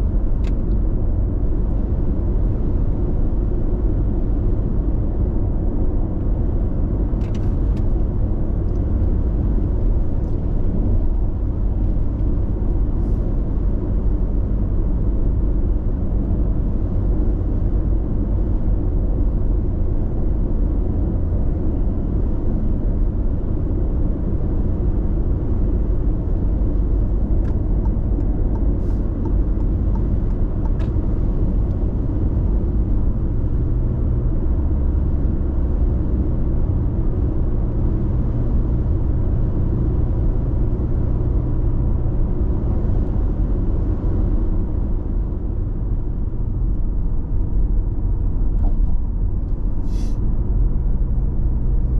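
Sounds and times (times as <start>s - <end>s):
road and tyre noise: 0.0s - 51.9s.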